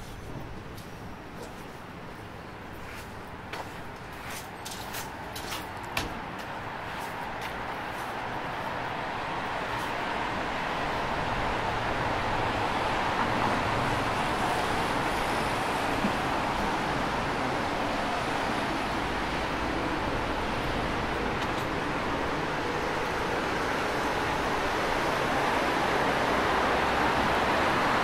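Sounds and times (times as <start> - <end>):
city road traffic: 0.0 - 28.0.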